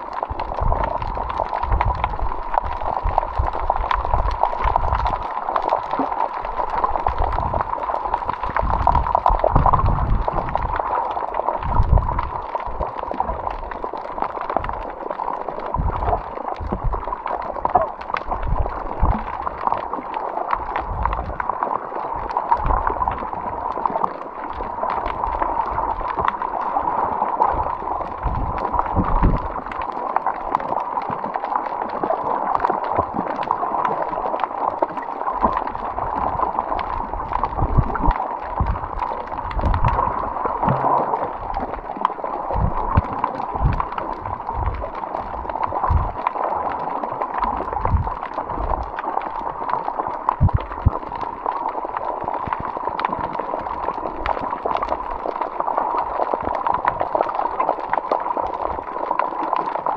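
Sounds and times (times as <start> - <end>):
water gurgling and sloshing: 0.0 - 59.9.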